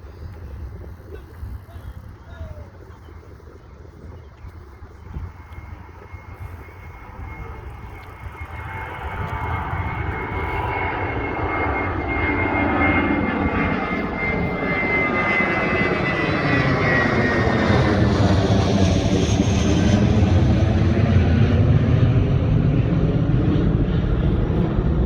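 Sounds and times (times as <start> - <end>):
jet airliner taking off: 2.3 - 25.0.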